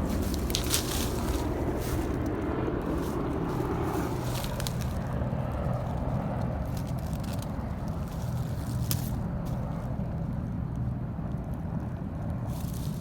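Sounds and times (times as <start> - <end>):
faint rustles and clicks: 0.0 - 10.5, 11.4 - 13.0
helicopters rumbling overhead: 0.0 - 13.0.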